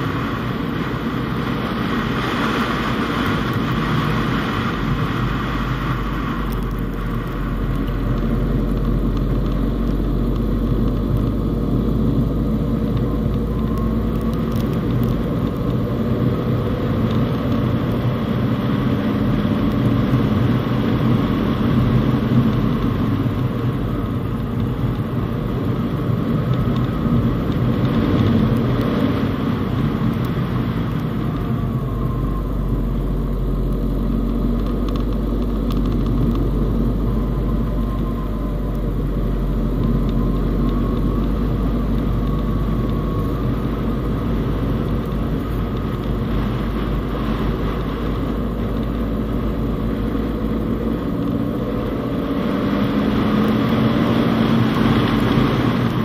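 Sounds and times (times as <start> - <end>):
car engine driving: 0.0 - 56.0
tyre and road noise: 0.0 - 56.0.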